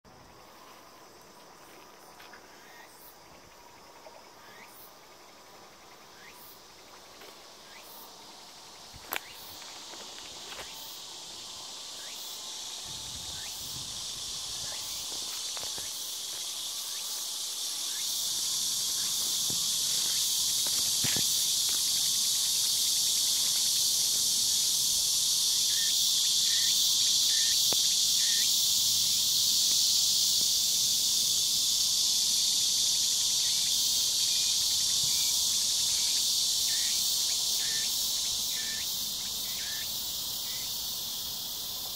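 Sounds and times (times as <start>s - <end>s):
high-pitched insect chorus: 0.1s - 41.9s.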